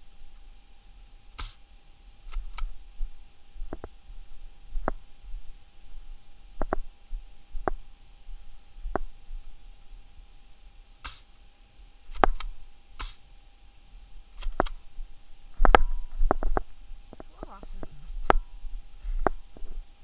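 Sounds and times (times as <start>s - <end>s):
faint steady tone: 0.0s - 20.0s.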